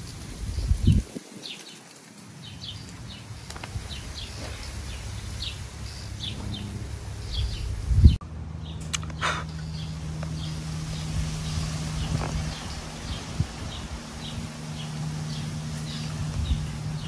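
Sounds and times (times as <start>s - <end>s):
small birds chirping: 0.0s - 17.0s
steady low rumble: 2.7s - 17.0s.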